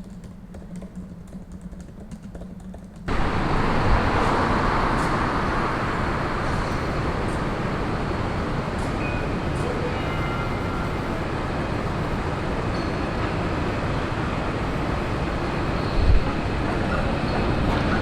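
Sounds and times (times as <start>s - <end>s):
rumbling vehicle noise: 3.1s - 18.0s.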